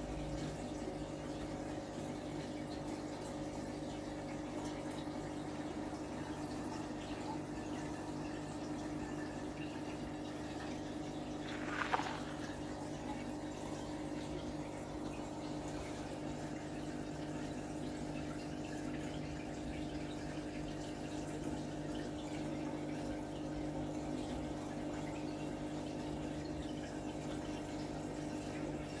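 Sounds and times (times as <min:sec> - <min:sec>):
aquarium pump humming: 0:00.0 - 0:29.0
moving water: 0:00.4 - 0:29.0.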